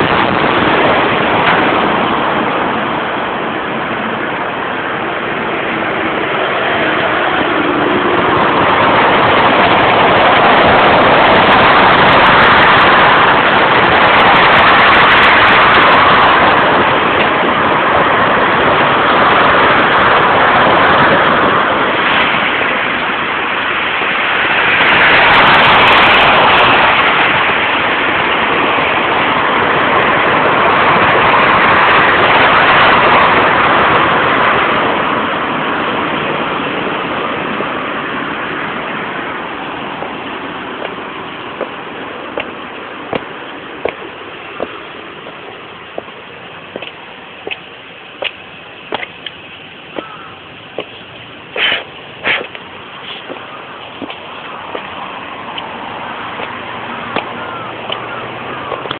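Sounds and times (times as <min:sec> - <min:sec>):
road traffic noise: 0:00.0 - 0:58.9.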